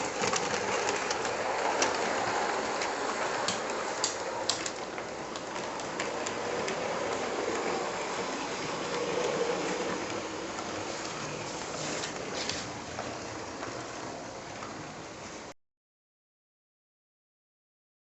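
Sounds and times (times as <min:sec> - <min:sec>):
model train rumbling on track: 0:00.0 - 0:15.5.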